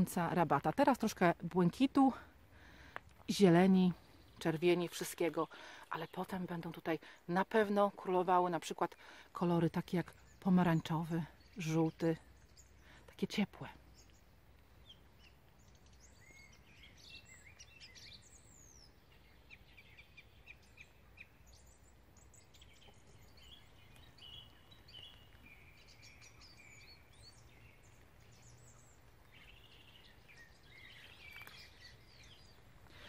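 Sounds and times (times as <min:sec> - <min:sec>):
faint birdsong: 0:00.0 - 0:33.0.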